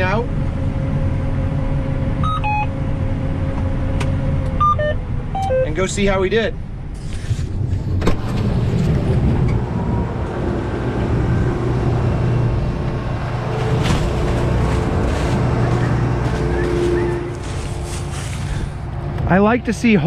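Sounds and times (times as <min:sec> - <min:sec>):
combine harvester mechanical hum: 0:00.0 - 0:20.0.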